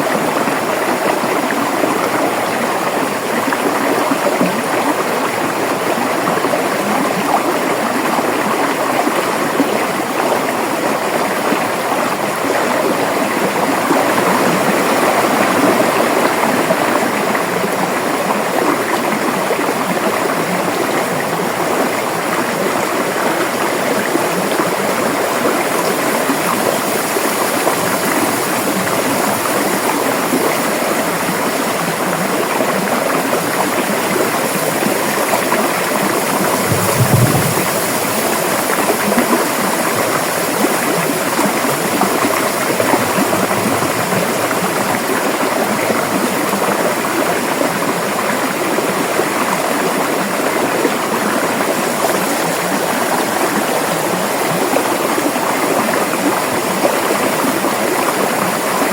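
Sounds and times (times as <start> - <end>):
river water gurgling over rocks: 0.0 - 58.9.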